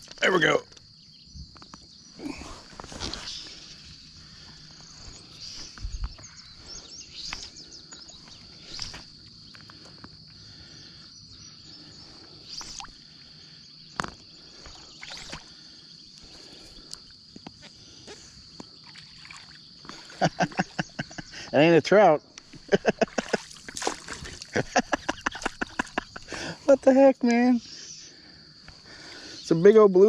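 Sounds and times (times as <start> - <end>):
small water sounds: 2.2 - 21.4, 22.4 - 27.4
high-pitched insect drone: 3.2 - 30.0.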